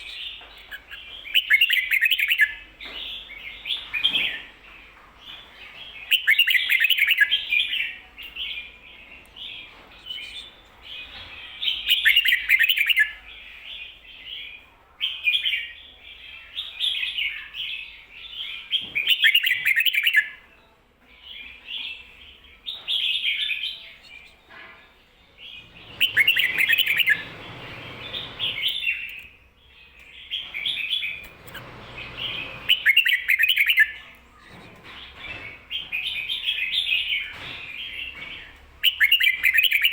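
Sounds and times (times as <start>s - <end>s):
bird singing warbled phrases: 0.0s - 20.4s, 25.4s - 39.9s.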